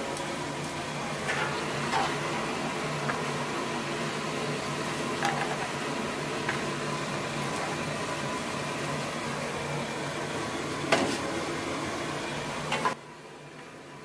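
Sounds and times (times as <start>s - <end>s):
hot oil frying hiss: 0.0s - 14.0s.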